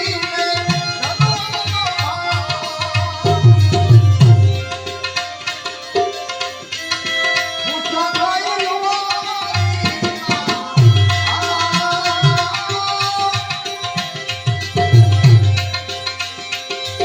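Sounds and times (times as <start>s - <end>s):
tabla playing: 0.0s - 17.0s.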